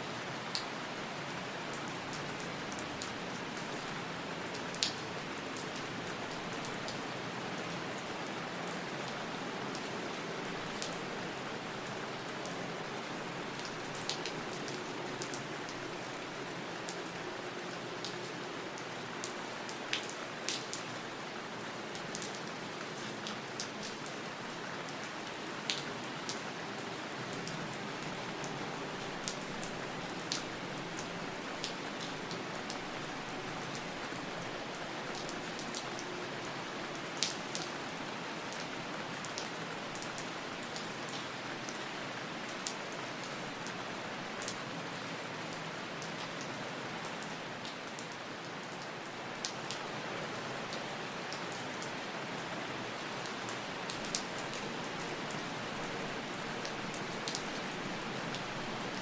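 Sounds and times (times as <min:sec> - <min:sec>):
raindrops hitting close by: 0:00.0 - 0:59.0
steady rain falling: 0:00.0 - 0:59.0.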